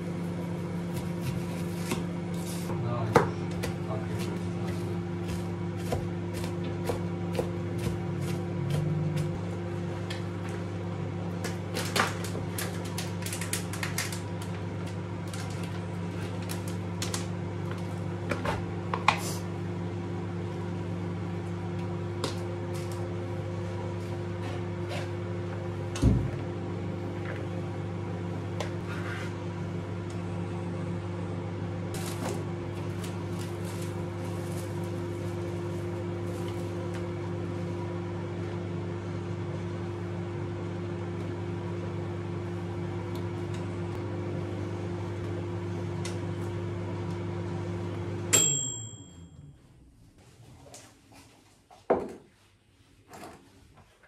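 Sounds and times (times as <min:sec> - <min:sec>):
microwave oven humming: 0:00.0 - 0:51.8.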